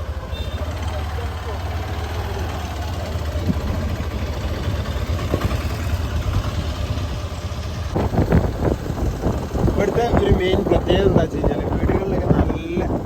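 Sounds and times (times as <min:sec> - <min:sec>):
motorcycle engine rumble: 0:00.0 - 0:13.0
road and air noise: 0:00.0 - 0:13.0.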